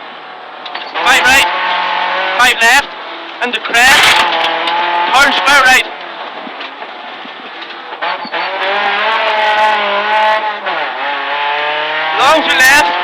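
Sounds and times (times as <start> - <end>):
rally car engine accelerating: 0.7 - 13.0.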